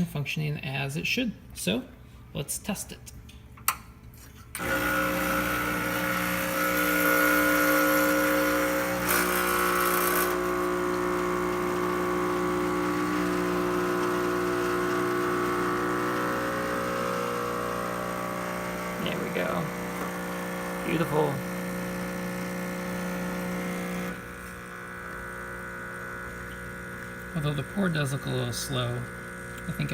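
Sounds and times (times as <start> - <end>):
espresso machine pump humming: 4.6 - 29.9.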